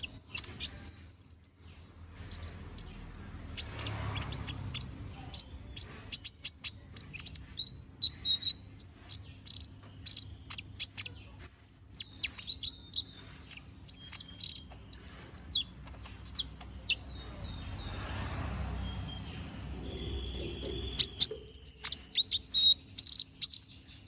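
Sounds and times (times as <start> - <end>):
sunbird singing high chirps: 0.0 - 3.0, 3.6 - 24.0.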